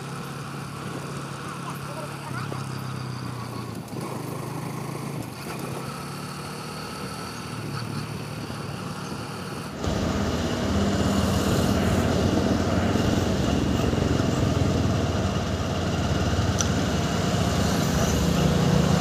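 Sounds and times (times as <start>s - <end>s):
motorbike engine running: 0.0s - 19.0s
road noise: 0.0s - 19.0s.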